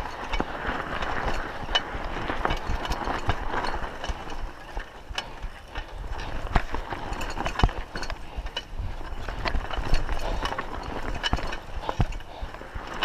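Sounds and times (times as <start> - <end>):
bike clicks and rattles: 0.0 - 13.0
wind rumble on microphone: 0.0 - 13.0.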